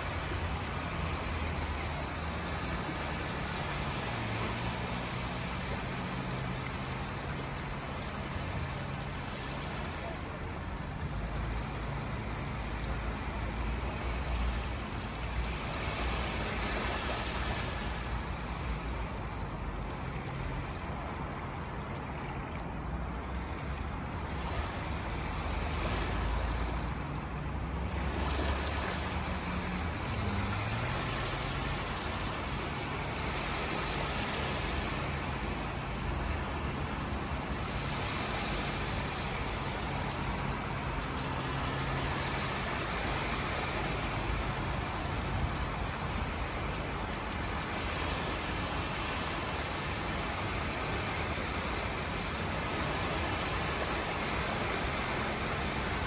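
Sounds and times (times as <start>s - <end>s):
small waves lapping on beach: 0.0s - 56.0s.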